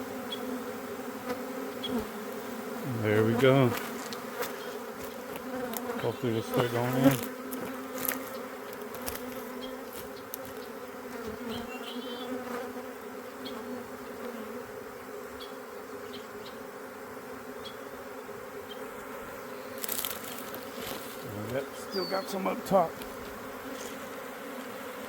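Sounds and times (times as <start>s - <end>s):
bee swarm buzzing: 0.0s - 25.0s.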